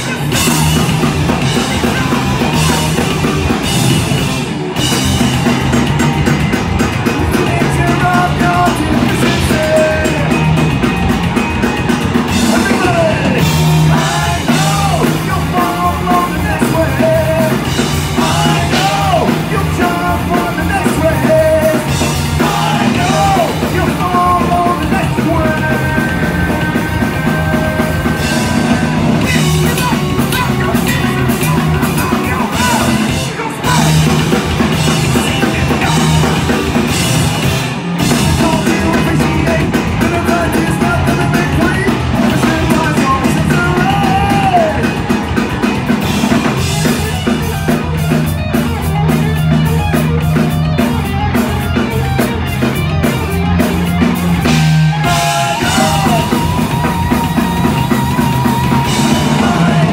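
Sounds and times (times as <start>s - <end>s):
distorted electric guitars: 0.0s - 59.9s
drum kit: 0.0s - 59.9s
punk rock band playing live: 0.0s - 59.9s.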